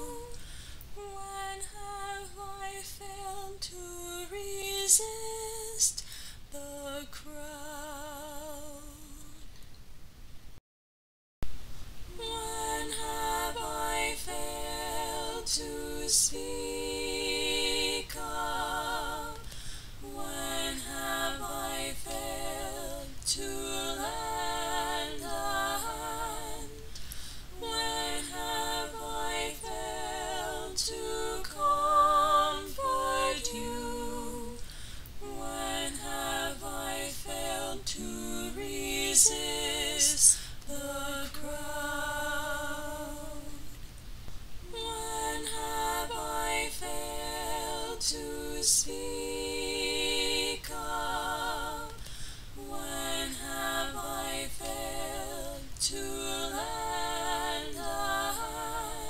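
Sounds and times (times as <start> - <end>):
woman singing a cappella: 0.0 - 9.7, 12.1 - 43.9, 44.6 - 59.0.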